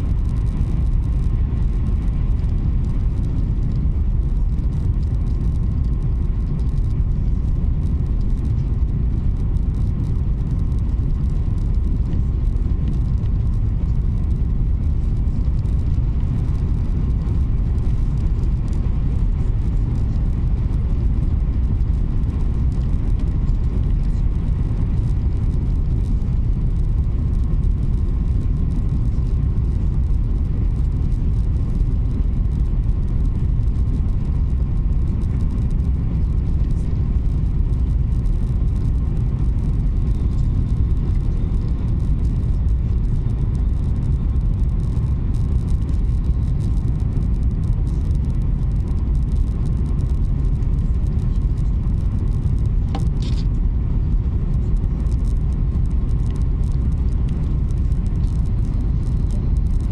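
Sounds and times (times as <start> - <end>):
faint steady whine: 0.0 - 59.9
train rumble inside cabin: 0.0 - 59.9.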